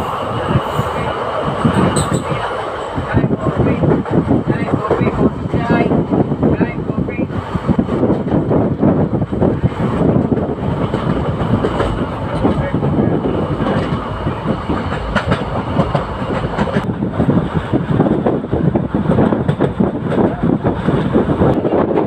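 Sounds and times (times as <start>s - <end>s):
train wheels clattering on track: 0.0s - 6.4s, 7.3s - 22.0s
train coach rumble: 0.0s - 22.0s.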